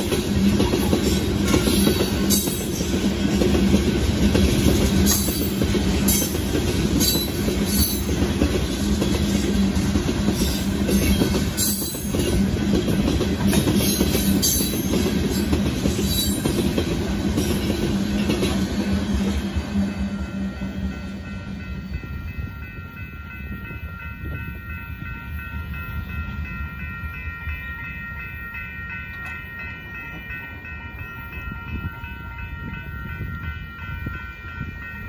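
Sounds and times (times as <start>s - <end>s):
steel wheels rumbling on rail: 0.0s - 35.0s.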